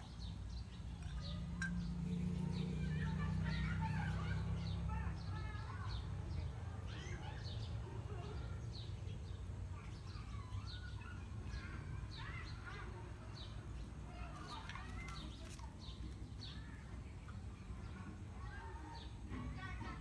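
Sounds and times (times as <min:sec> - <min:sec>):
birds chirping: 0:00.0 - 0:19.7.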